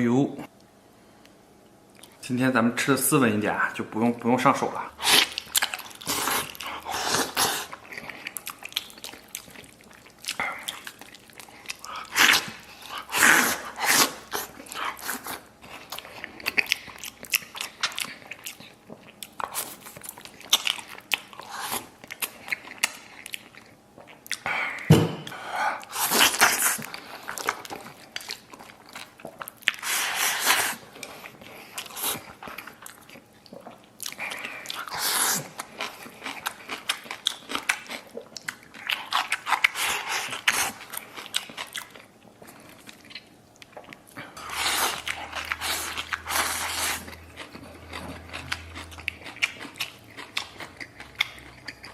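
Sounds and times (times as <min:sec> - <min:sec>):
person chewing meat: 0:01.9 - 0:02.2, 0:04.6 - 0:51.9.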